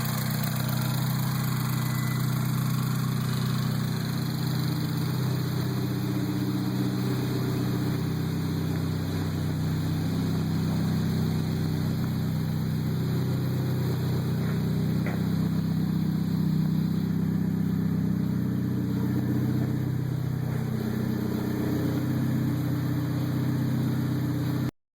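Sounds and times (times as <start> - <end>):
car engine idling: 0.0 - 24.7.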